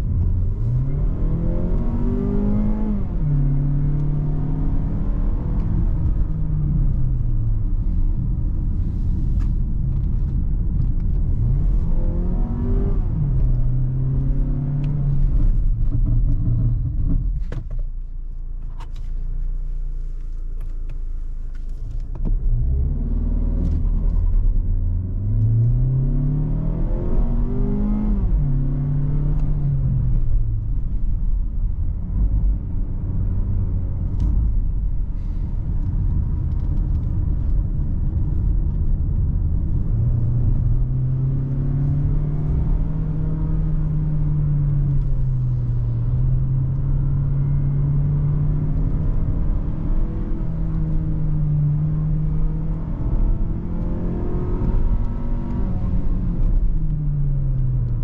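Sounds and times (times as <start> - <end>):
car engine accelerating: 0.0 - 18.0, 18.6 - 58.0
tyre and road rumble: 0.0 - 58.0.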